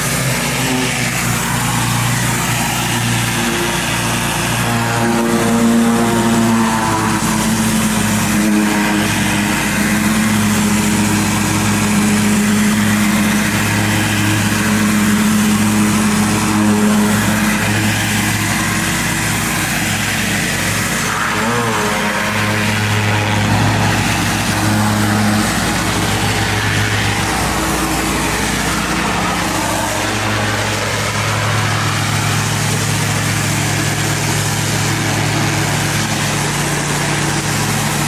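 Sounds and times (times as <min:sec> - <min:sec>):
pressure washer engine running: 0:00.0 - 0:38.0
water spray hiss: 0:00.0 - 0:38.0.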